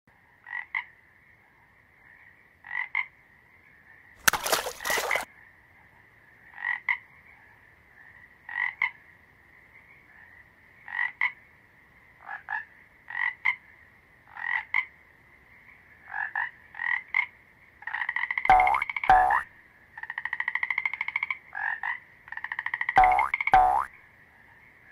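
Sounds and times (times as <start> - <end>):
frogs croaking: 0.2 - 24.9.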